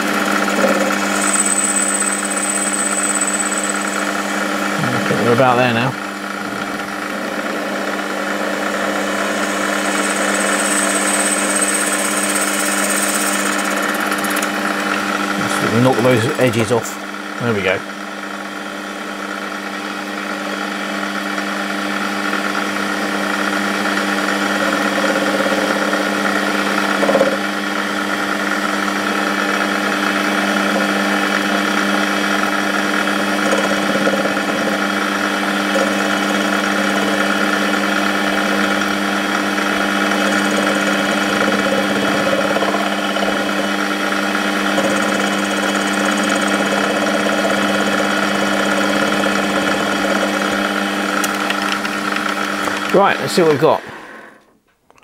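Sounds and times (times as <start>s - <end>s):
metal lathe running: 0.0s - 17.3s, 19.0s - 54.3s.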